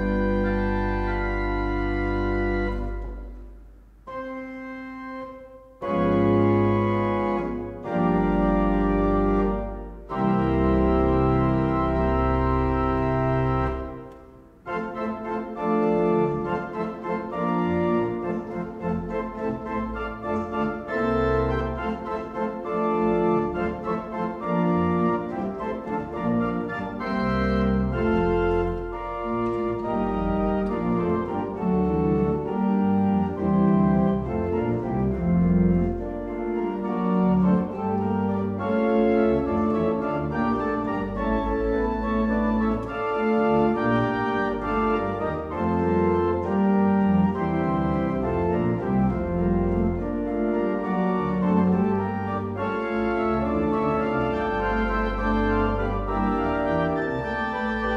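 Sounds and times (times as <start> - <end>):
deep organ pedal notes: 0.0 - 57.9
pipe organ chords: 0.0 - 57.9.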